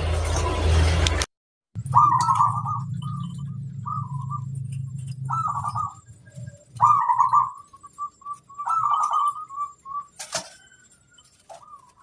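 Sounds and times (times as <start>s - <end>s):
dove cooing: 1.8s - 12.0s.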